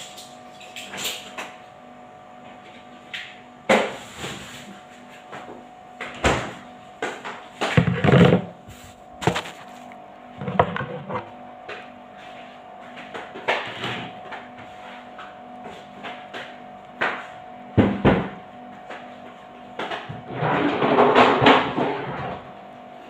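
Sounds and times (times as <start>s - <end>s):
steady low hum: 1.4s - 23.0s.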